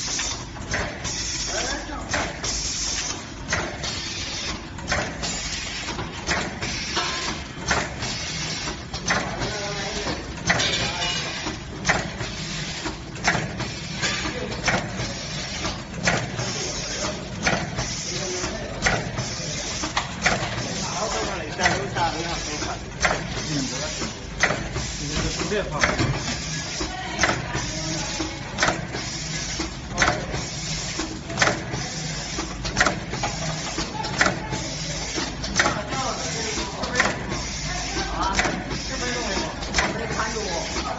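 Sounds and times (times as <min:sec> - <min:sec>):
packing machine hum: 0:00.0 - 0:40.9.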